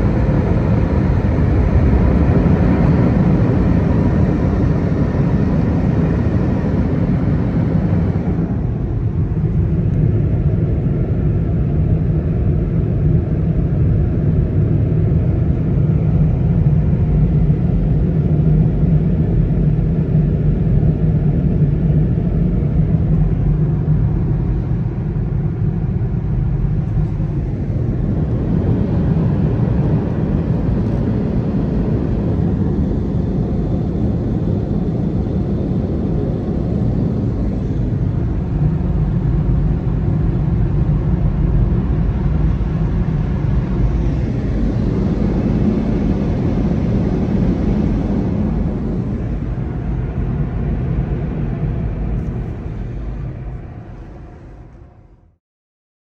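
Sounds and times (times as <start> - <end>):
car wash air blowers rumbling: 0.0 - 11.8, 15.9 - 55.0.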